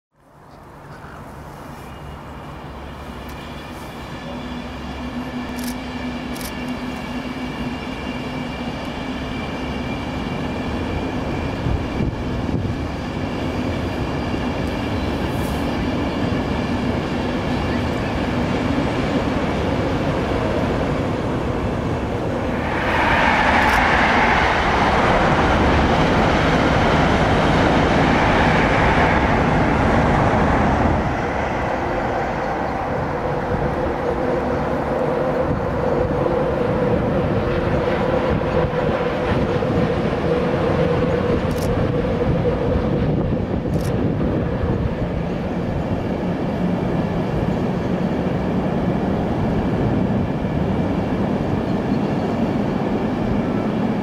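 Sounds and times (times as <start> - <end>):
train rumbling over bridge: 0.2 - 54.0.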